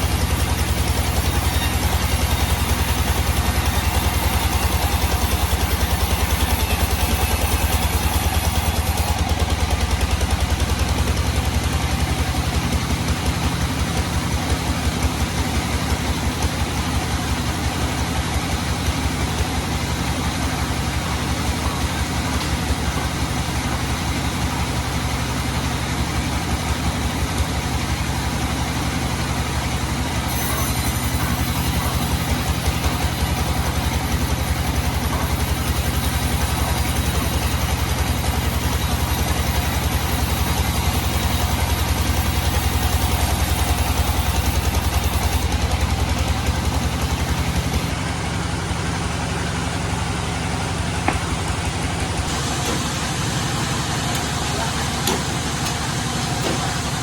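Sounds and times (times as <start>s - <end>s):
sawmill engine pulsing: 0.0s - 57.0s.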